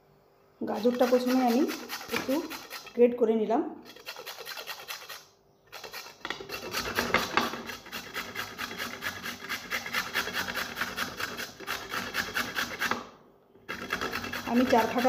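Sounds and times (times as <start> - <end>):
carrot rasping on a grater: 0.6 - 3.0, 3.8 - 15.0.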